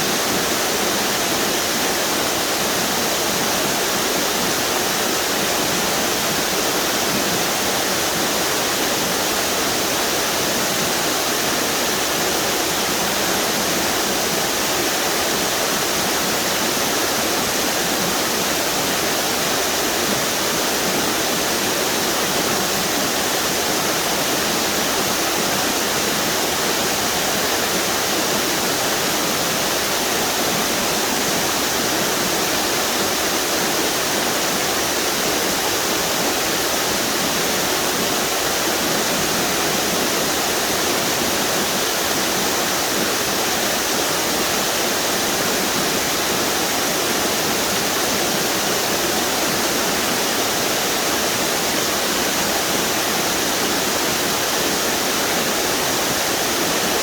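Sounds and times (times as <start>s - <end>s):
water rushing over waterfalls: 0.0s - 57.0s.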